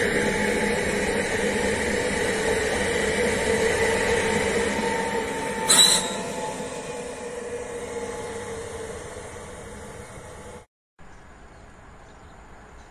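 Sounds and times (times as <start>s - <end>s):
electric train passing: 0.0s - 10.7s
loud burst of noise: 0.0s - 10.7s.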